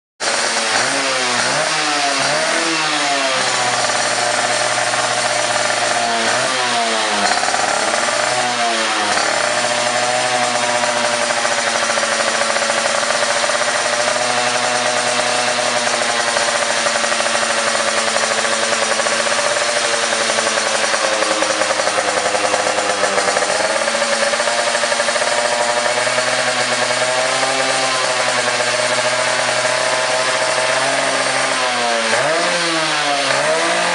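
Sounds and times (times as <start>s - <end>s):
motorcycle engine revving and idling: 0.2s - 33.9s.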